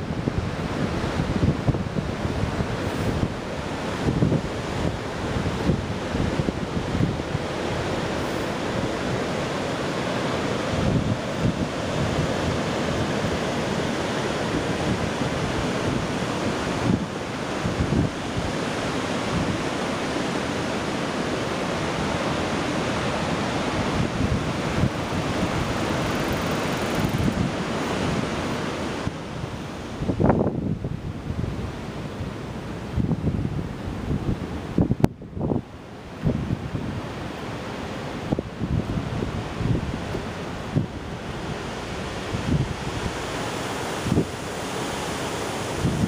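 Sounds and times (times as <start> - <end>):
wind buffeting microphone: 0.0 - 20.7, 21.3 - 46.0.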